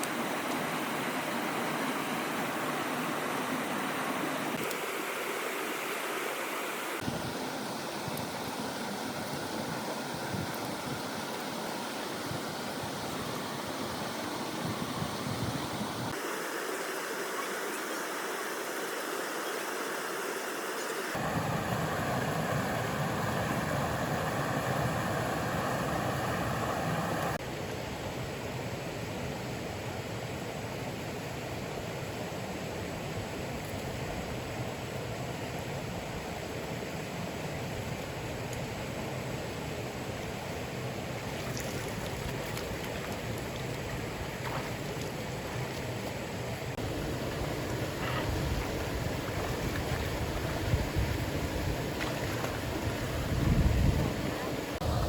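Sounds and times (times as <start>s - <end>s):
stream water rushing: 0.0s - 27.6s, 34.0s - 55.0s.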